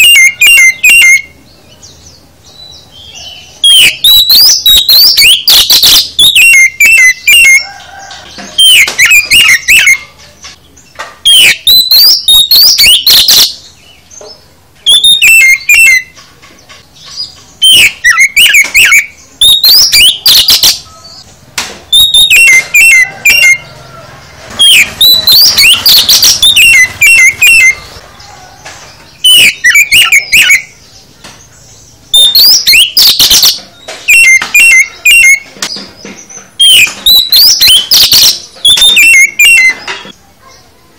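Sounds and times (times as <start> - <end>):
magpie-robin singing chirps and whistles: 0.0 - 21.3, 21.9 - 23.7, 24.5 - 27.8, 28.9 - 39.9.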